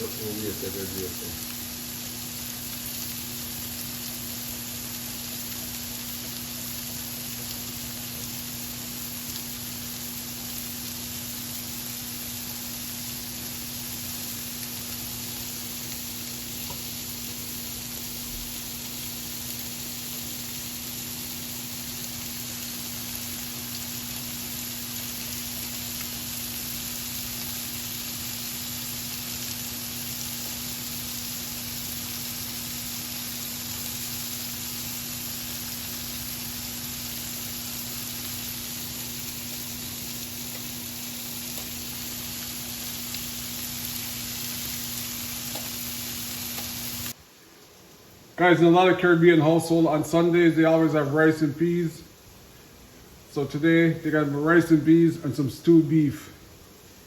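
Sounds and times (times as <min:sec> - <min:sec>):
burger patties sizzling on grill pan: 0:00.0 - 0:47.2.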